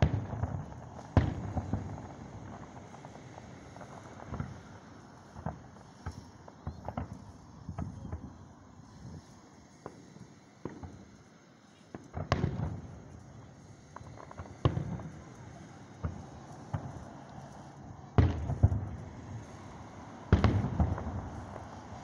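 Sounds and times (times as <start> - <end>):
distant fireworks booming: 0.0 - 11.1, 11.8 - 22.0.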